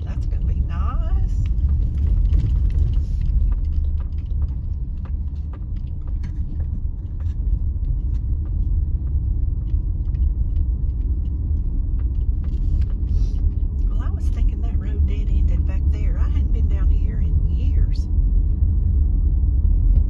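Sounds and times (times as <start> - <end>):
car tyres and engine rumbling: 0.0 - 20.0.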